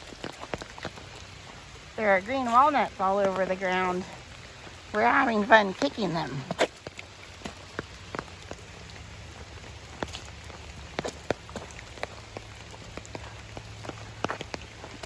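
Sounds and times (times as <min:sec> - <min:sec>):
rain falling: 0:00.0 - 0:15.0
raindrops striking an umbrella: 0:00.0 - 0:15.0.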